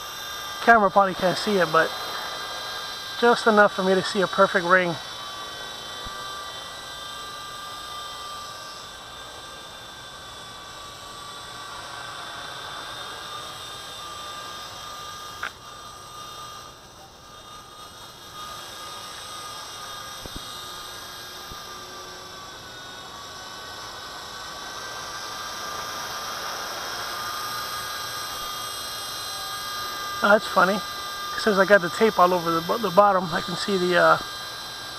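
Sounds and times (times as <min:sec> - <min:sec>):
rc helicopter rotor whining: 0:00.0 - 0:34.9.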